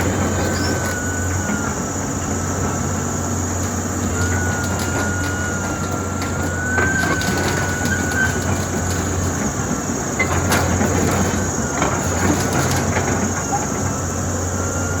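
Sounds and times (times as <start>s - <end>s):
excavator diesel engine drone: 0.0s - 15.0s.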